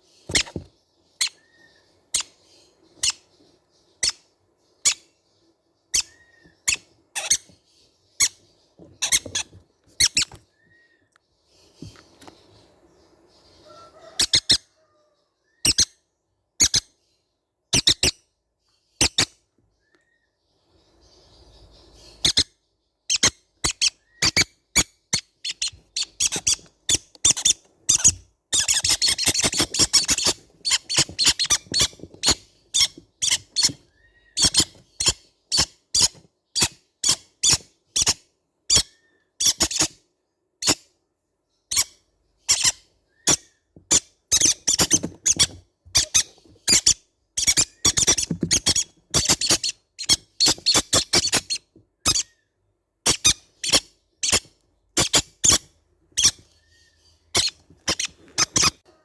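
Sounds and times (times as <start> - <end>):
young parrots squeaky calls: 0.0 - 12.6, 13.3 - 16.0, 16.6 - 40.0, 40.6 - 40.9, 41.7 - 58.9.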